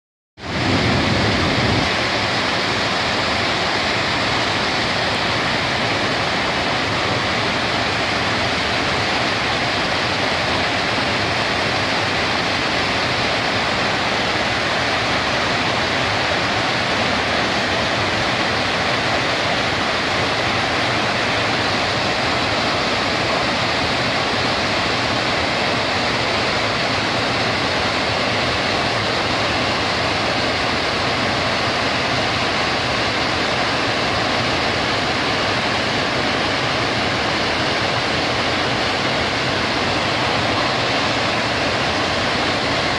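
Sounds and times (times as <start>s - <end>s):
water rushing over dam: 0.4s - 42.9s.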